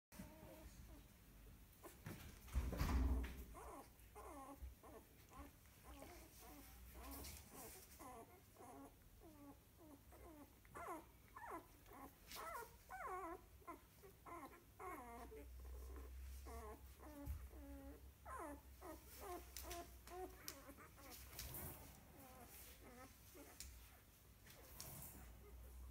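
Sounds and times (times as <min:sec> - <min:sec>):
puppies whimpering and squeaking: 0:00.2 - 0:01.1, 0:01.7 - 0:25.9.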